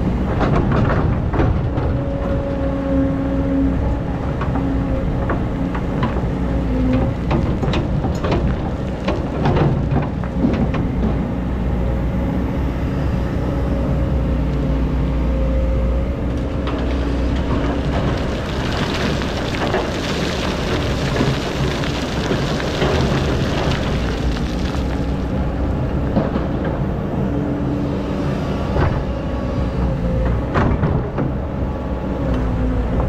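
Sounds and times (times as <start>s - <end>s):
excavator diesel engine: 0.0s - 33.0s.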